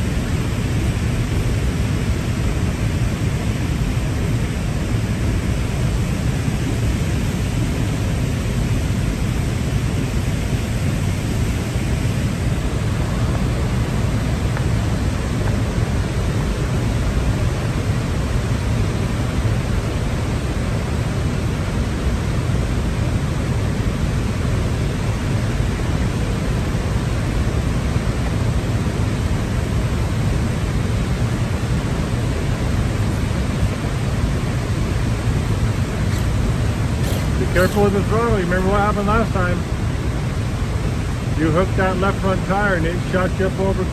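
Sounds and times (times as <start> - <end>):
steady low rushing noise: 0.0 - 43.9.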